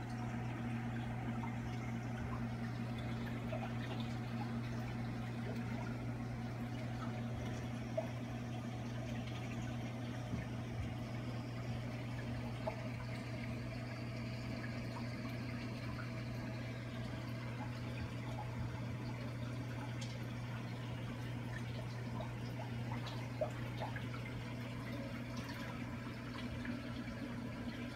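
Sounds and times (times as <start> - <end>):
pump hum: 0.0 - 27.9.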